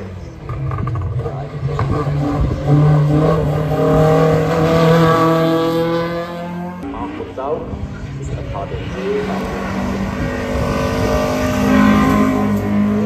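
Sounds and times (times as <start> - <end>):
race car engine passing: 0.0 - 13.0.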